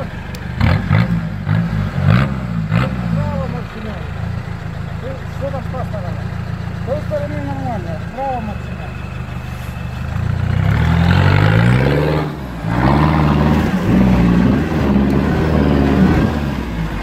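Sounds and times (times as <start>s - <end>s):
car engine revving hard: 0.0s - 4.4s, 5.0s - 17.0s.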